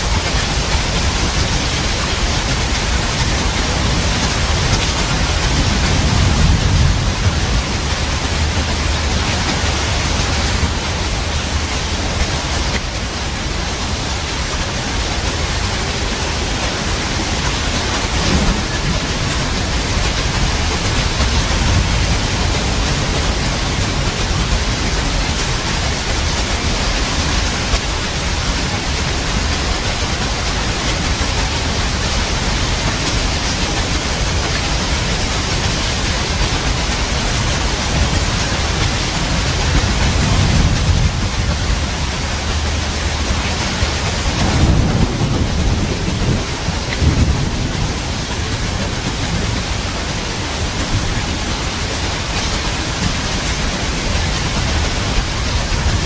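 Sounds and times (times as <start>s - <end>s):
heavy rain: 0.0s - 56.0s
low rumble of thunder: 0.0s - 56.0s.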